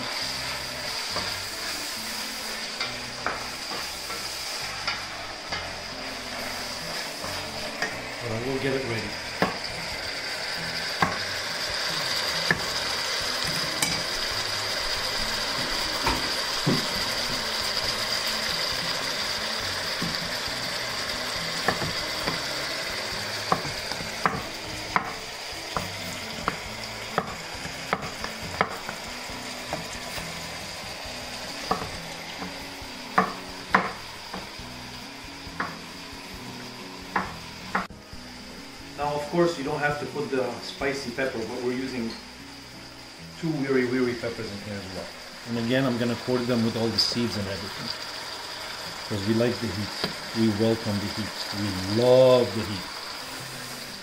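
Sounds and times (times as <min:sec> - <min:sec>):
vegetables sizzling in frying pan: 0:00.0 - 0:54.0.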